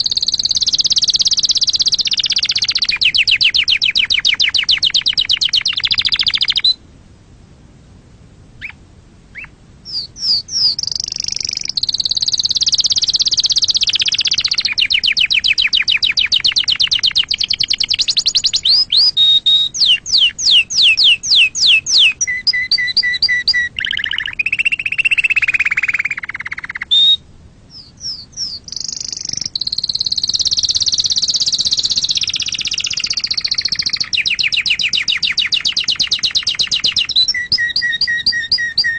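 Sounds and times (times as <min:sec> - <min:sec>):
canary singing trills: 0:00.0 - 0:06.8, 0:08.6 - 0:38.9.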